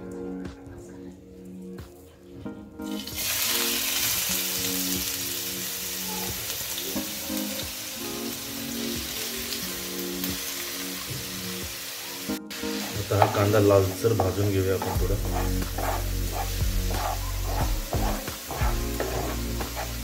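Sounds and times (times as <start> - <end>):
onion sizzling in hot oil: 2.9 - 20.0.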